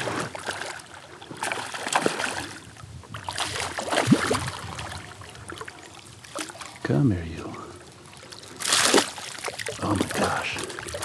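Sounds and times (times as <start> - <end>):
fish thrashing and splashing: 0.0 - 6.8, 8.3 - 11.0.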